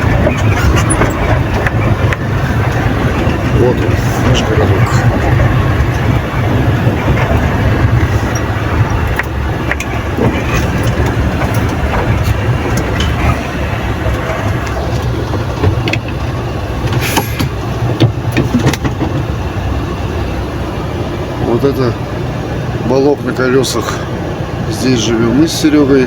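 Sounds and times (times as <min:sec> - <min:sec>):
cab rattles and knocks: 0:00.0 - 0:21.9
truck engine rumbling: 0:00.0 - 0:26.0.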